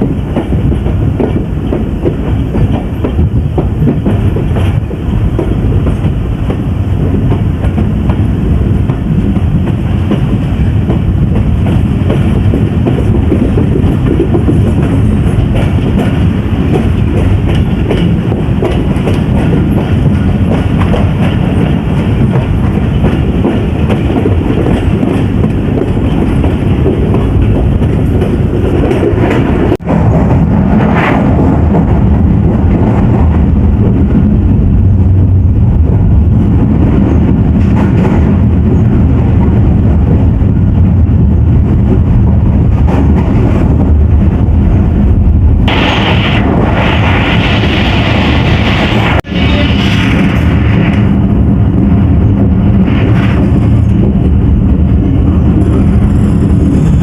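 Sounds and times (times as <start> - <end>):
heavy train rumble: 0.0 - 57.0
train wheels clattering on rails: 0.0 - 57.0.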